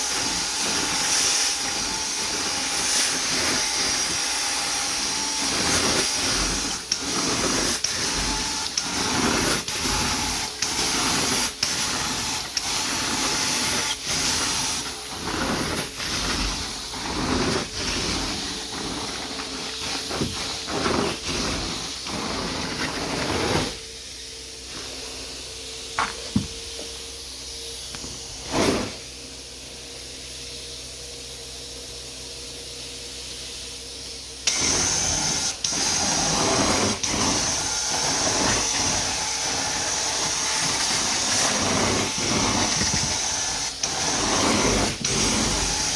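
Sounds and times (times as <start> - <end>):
carpet cleaning wand hissing: 0.0 - 45.9.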